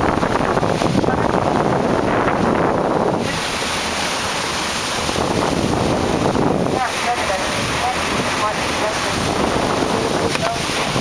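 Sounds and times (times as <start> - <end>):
water rushing along a boat: 0.0 - 11.0
wind buffeting microphone: 0.0 - 11.0.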